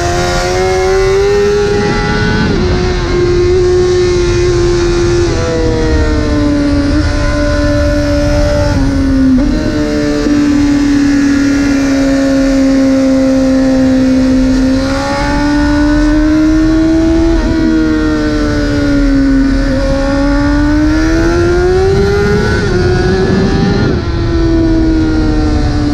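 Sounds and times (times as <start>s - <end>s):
motorcycle engine at high revs: 0.0s - 25.9s
wind rushing: 0.0s - 25.9s.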